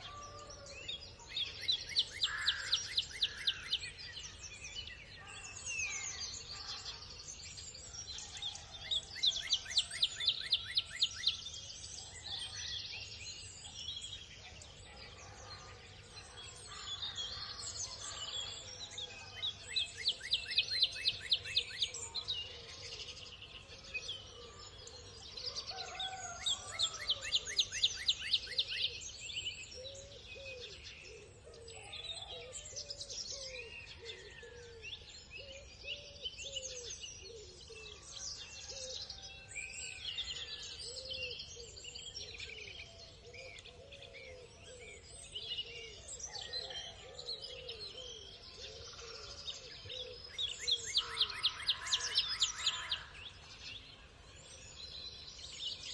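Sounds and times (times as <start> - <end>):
birds chirping and calling: 0.0 - 55.9.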